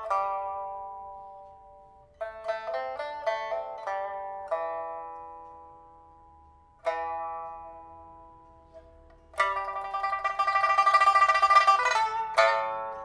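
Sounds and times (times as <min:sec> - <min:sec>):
pipa fast tremolo plucks: 0:00.0 - 0:13.0
pipa notes ringing: 0:00.0 - 0:13.0.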